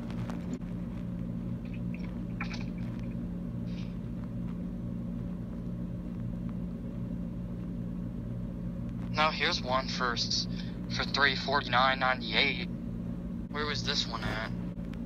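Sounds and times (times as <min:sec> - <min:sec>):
low hum of phone line: 0:00.0 - 0:15.0.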